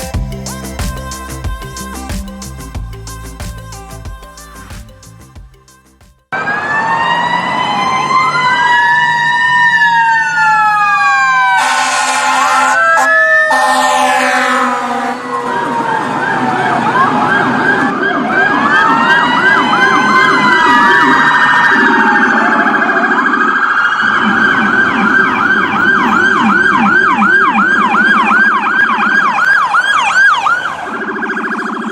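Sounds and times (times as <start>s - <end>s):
electronic sirens wailing: 6.3s - 31.9s.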